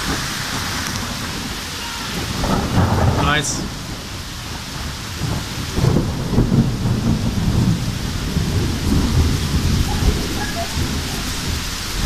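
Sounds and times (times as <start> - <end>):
rain hissing: 0.0 - 12.0
thunder rumbling: 0.0 - 12.0.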